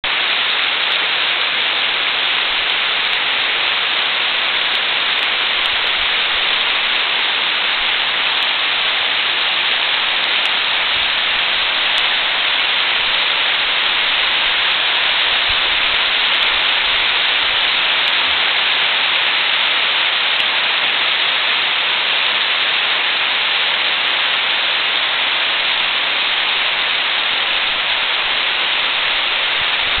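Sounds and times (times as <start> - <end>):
hard rain on trees and leaves: 0.0 - 30.0.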